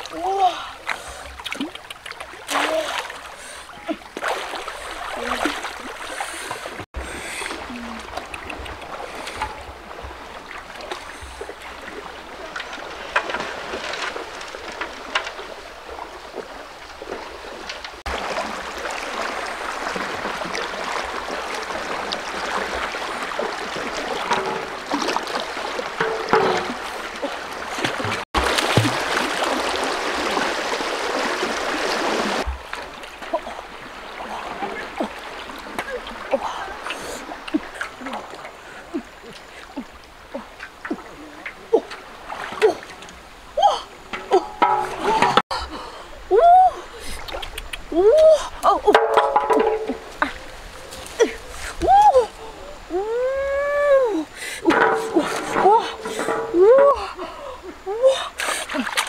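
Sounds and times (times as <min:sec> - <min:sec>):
river water rushing and splashing: 0:00.0 - 0:59.0.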